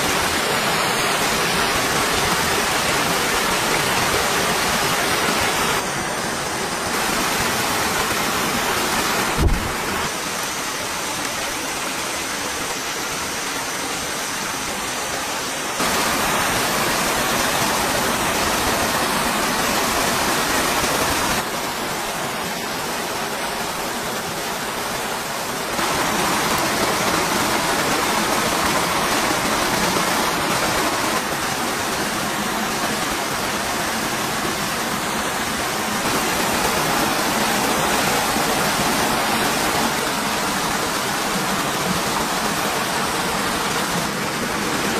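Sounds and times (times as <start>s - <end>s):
waterfall splashing into pool: 0.0s - 44.9s.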